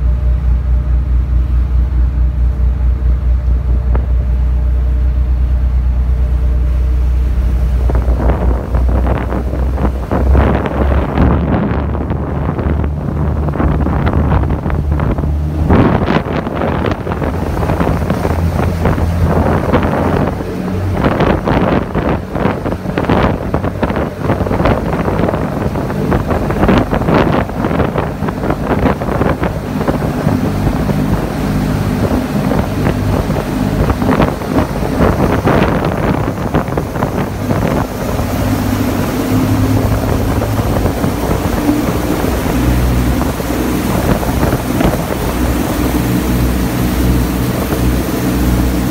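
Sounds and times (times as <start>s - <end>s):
ferry engine hum: 0.0s - 48.9s
water rushing and splashing: 0.0s - 48.9s
wind buffeting microphone: 0.0s - 48.9s.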